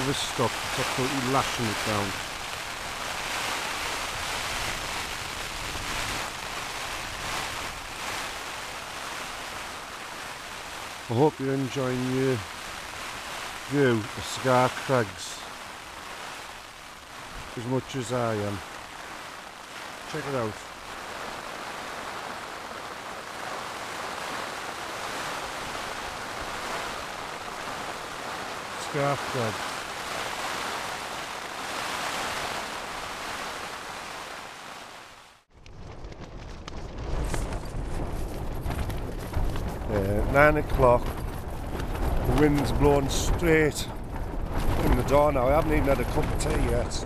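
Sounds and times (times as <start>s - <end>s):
heavy rain on tent fabric: 0.0s - 47.0s.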